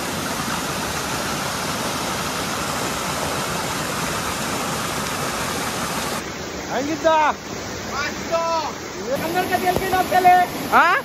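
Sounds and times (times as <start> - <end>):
waterfall cascading over rocks: 0.0 - 11.0.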